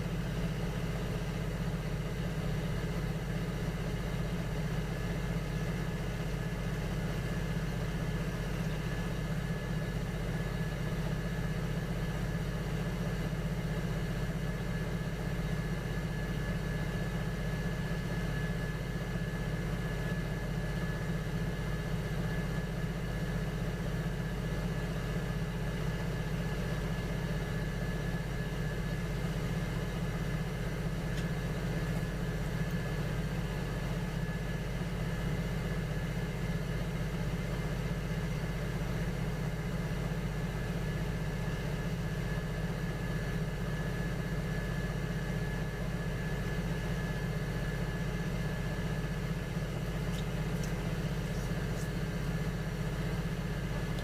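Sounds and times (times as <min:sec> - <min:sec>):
potter's wheel motor humming: 0:00.0 - 0:54.0.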